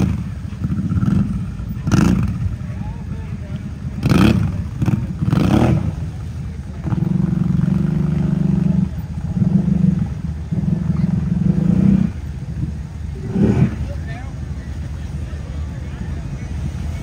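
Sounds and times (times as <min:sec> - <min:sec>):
atv engine revving: 0:00.0 - 0:17.0
tires churning water: 0:00.0 - 0:17.0.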